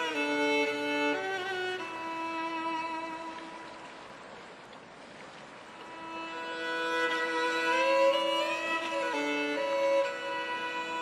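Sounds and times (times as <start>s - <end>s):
violin holding long note: 0.0s - 3.8s, 5.8s - 11.0s.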